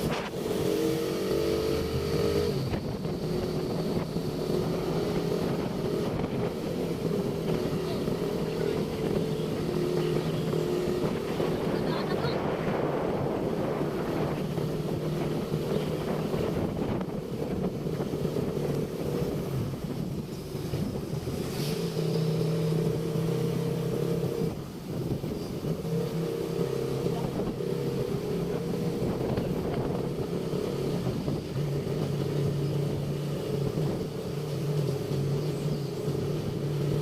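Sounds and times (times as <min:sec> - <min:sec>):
motorcycle engine droning: 0:00.0 - 0:37.0
wind and road noise: 0:00.0 - 0:37.0.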